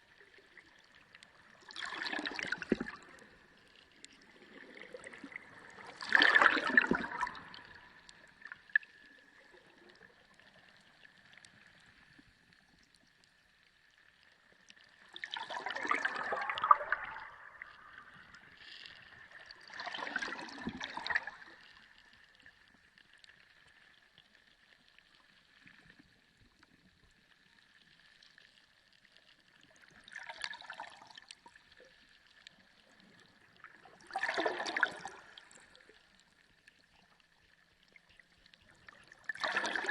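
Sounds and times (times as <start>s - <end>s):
underwater water gurgling: 0.0s - 39.9s.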